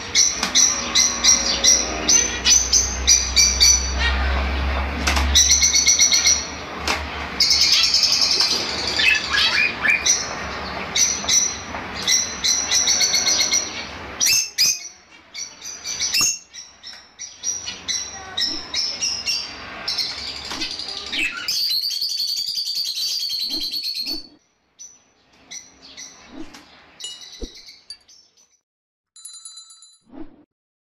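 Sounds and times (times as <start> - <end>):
birds chattering and chirping: 0.0 - 28.6.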